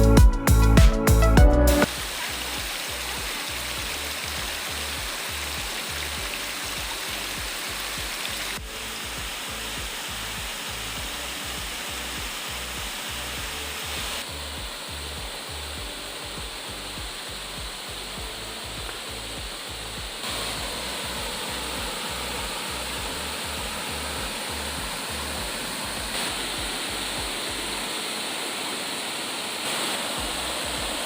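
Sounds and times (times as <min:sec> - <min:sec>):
waterfall rushing: 0:01.8 - 0:31.0.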